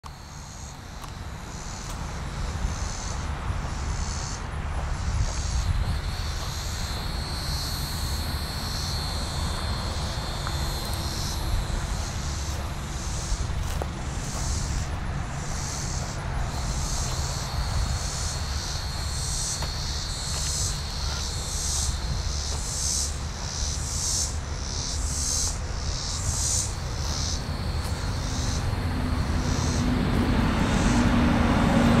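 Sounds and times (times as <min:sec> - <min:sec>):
cicadas buzzing: 0:00.0 - 0:32.0
highway traffic rumble: 0:00.0 - 0:32.0.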